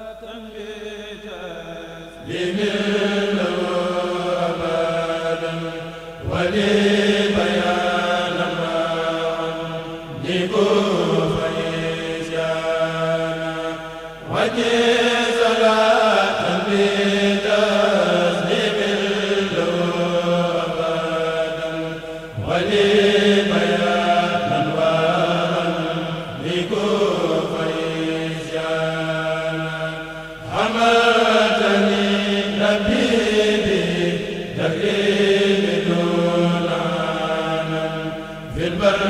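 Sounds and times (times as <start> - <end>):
men chanting in unison: 0.0 - 39.0.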